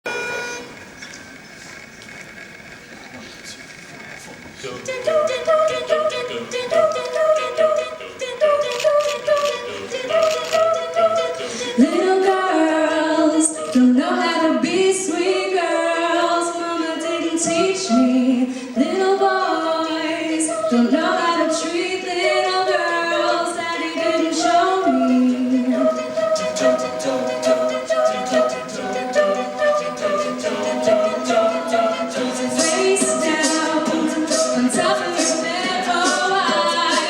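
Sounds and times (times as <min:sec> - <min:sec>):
a cappella group singing: 0:04.6 - 0:37.0
lead voice singing: 0:04.8 - 0:37.0.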